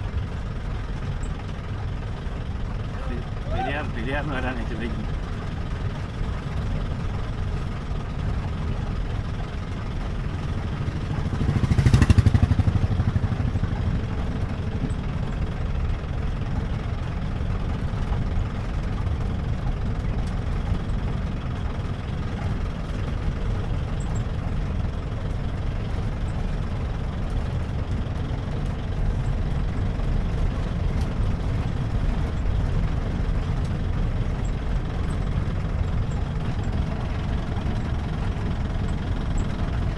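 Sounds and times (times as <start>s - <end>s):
car engine rumbling: 0.0s - 39.9s
road noise: 0.0s - 39.9s.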